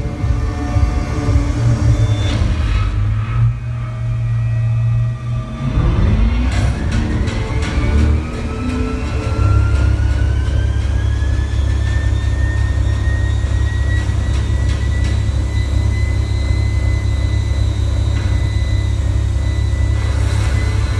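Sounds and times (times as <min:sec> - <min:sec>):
car engine at high revs: 0:00.0 - 0:20.9
supercharger whine: 0:00.0 - 0:20.9.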